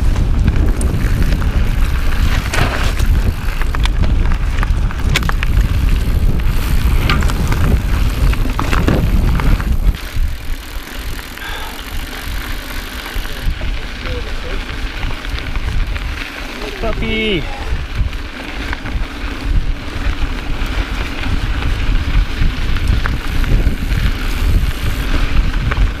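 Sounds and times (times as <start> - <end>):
bike rattling over rocks: 0.0 - 26.0
bike tyres crunching over rocks: 0.0 - 26.0
wind rumble on microphone: 0.0 - 26.0.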